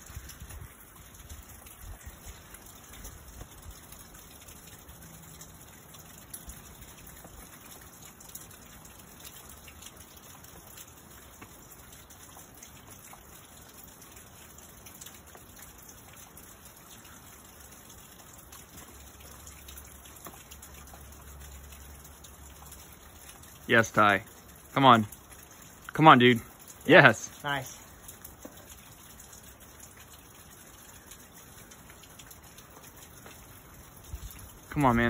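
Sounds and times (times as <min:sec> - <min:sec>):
faint outdoor hiss: 0:00.0 - 0:35.0.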